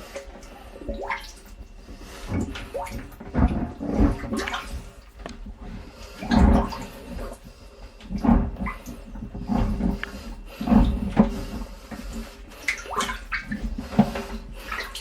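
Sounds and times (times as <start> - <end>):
boots wading through water: 0.0 - 15.0.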